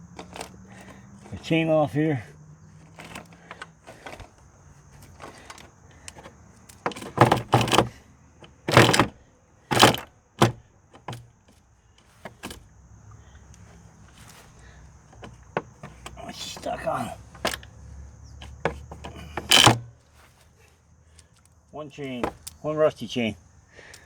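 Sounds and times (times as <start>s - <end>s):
metal chain clanking and rattling: 0.0s - 1.8s, 2.6s - 11.4s, 12.1s - 20.3s, 22.1s - 22.6s.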